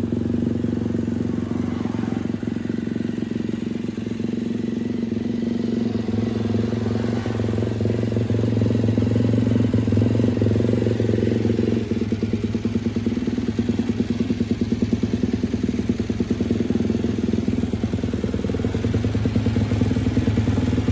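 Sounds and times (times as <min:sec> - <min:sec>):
racing motorcycle engine running: 0:00.0 - 0:20.9.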